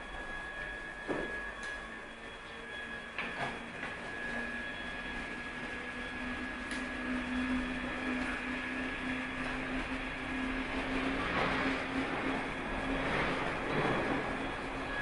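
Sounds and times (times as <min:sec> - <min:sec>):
furnace hum: 0:00.0 - 0:15.0
high whine: 0:00.0 - 0:15.0.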